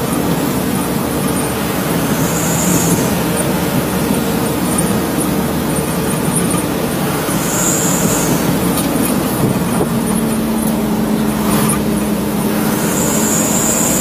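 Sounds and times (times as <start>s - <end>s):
brief high whine: 0.0s - 5.1s, 6.4s - 10.2s, 11.4s - 14.0s
steady engine hum: 0.0s - 14.0s
trucks driving on road: 0.0s - 14.0s.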